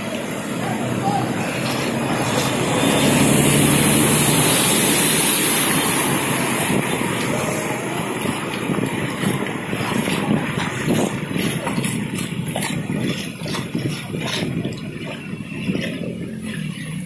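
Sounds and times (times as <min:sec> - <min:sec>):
bus engine running: 0:00.0 - 0:14.6
water splashing from wheels: 0:00.0 - 0:17.0.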